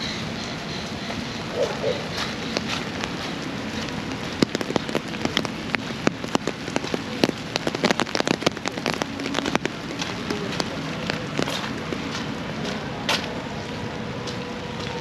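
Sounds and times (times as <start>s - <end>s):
rain hiss: 0.0s - 15.0s
raindrops ticking: 0.0s - 15.0s.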